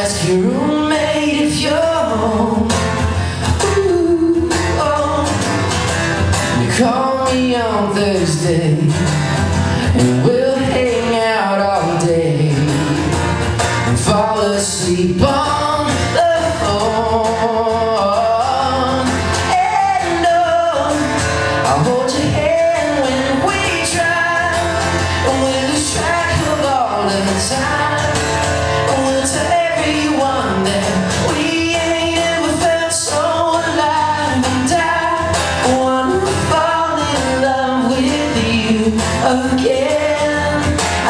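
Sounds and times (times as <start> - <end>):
man singing into a microphone: 0.0 - 41.0
strummed acoustic guitar: 0.0 - 41.0.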